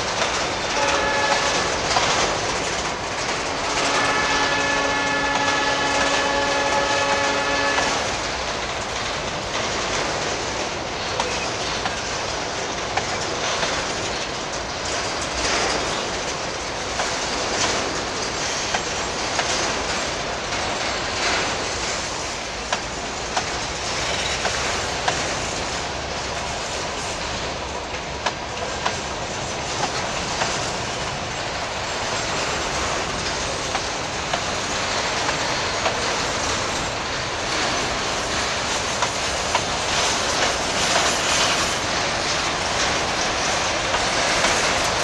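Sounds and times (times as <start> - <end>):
freight wagons rumbling and rattling: 0.0 - 45.0
wheels clacking over rail joints: 0.0 - 45.0.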